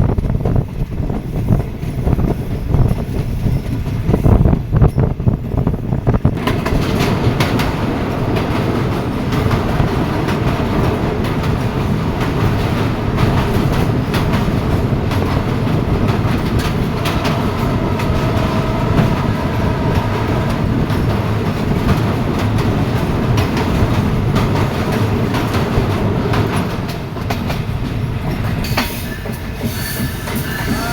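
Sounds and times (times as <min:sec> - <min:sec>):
train rumbling on track: 0:00.0 - 0:30.9
wheels clicking over rail joints: 0:00.0 - 0:30.9.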